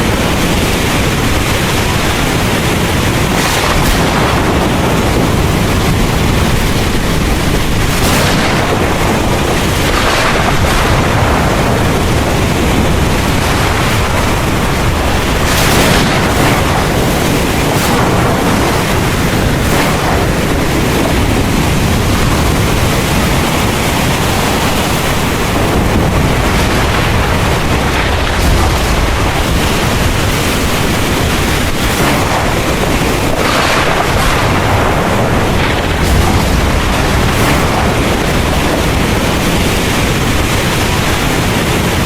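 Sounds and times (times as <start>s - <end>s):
heavy rain pouring: 0.0s - 42.0s
low rumble of thunder: 0.0s - 42.0s.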